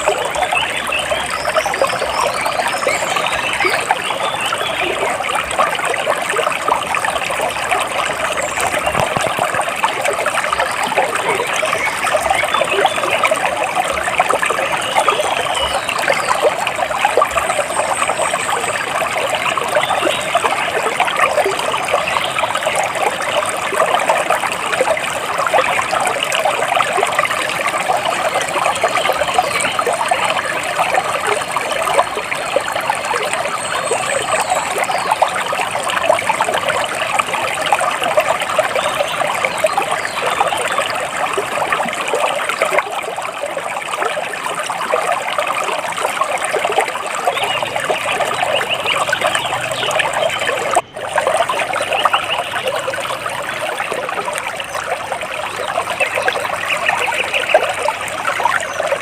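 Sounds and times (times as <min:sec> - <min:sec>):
water trickling over stones: 0:00.0 - 0:59.0.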